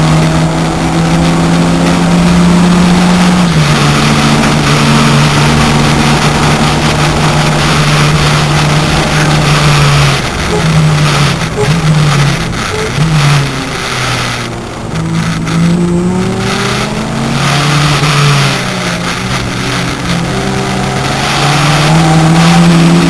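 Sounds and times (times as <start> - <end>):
car engine pulling hard: 0.0 - 23.0
wind and road noise: 0.0 - 23.0.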